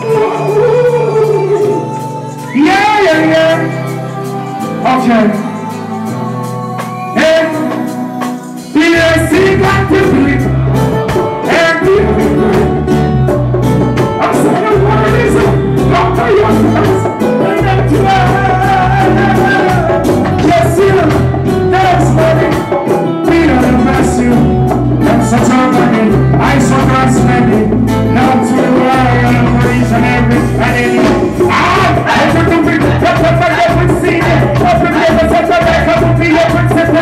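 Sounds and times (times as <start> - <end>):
vocalist singing: 0.0 - 13.4, 14.0 - 37.0
reggae band playing: 0.0 - 37.0.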